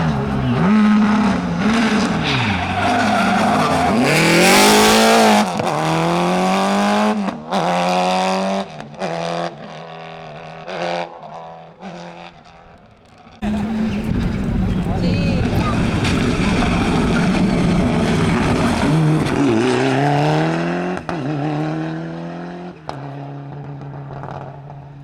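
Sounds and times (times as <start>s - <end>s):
rally car engine revving: 0.0s - 12.8s, 13.4s - 25.0s.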